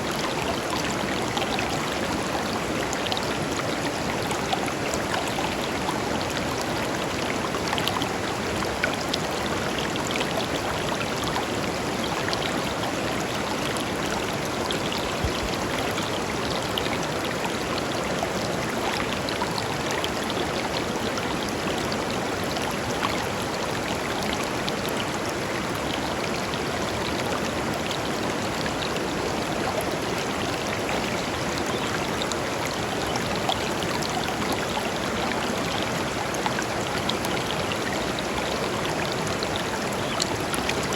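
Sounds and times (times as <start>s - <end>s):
river babbling over stones: 0.0s - 40.9s.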